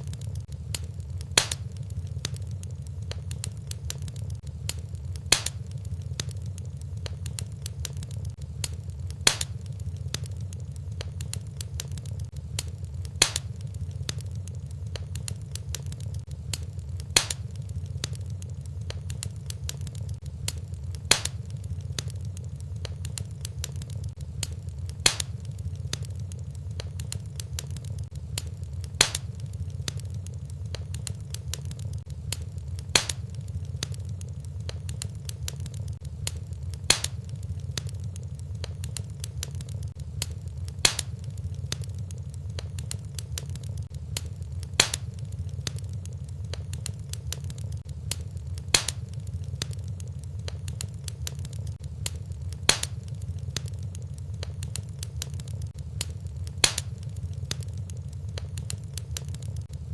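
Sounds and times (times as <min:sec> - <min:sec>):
sharp fire pop: 0:00.0 - 0:38.0, 0:38.6 - 0:45.9, 0:46.5 - 0:49.8, 0:50.4 - 0:59.8
steady low rumble: 0:00.0 - 0:59.9
wood fire crackling: 0:00.0 - 0:59.9.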